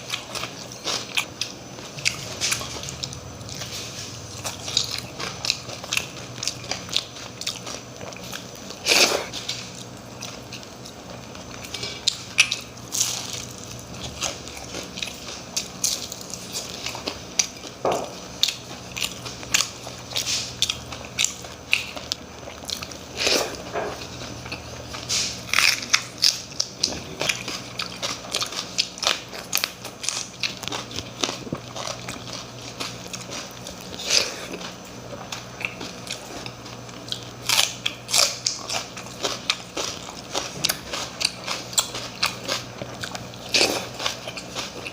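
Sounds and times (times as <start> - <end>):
person crunching and chewing food: 0.0 - 44.9.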